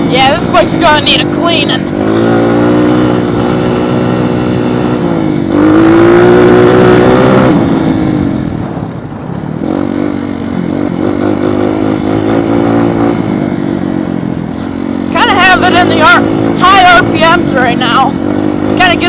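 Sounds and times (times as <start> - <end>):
dirt bike engine revving: 0.0 - 8.8, 9.6 - 19.0.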